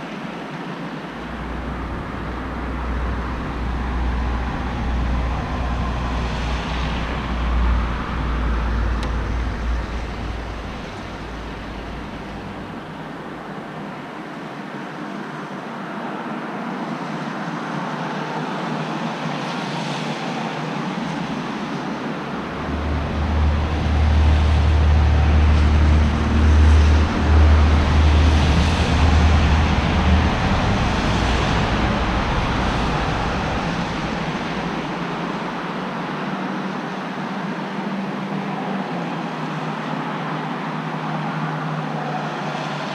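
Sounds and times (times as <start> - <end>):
deep traffic rumble: 0.0 - 42.9
tyre hiss of passing vehicles: 0.0 - 42.9.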